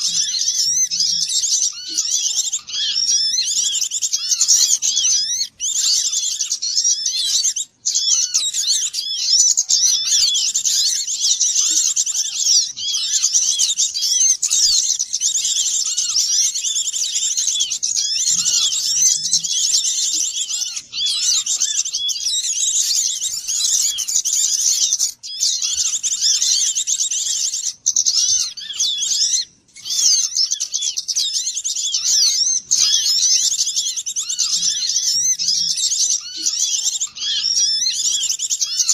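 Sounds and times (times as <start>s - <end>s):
small songbirds twittering: 0.0s - 38.9s.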